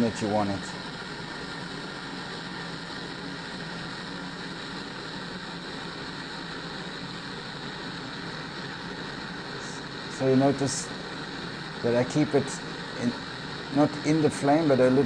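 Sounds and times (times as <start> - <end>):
gas burner flame rushing: 0.0 - 15.0.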